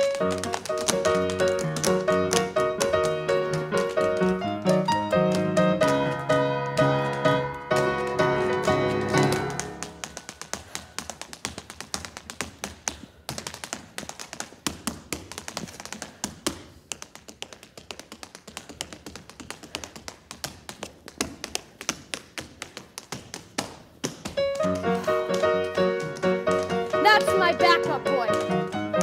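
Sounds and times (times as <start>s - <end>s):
tap shoes on stage floor: 0.0s - 29.0s.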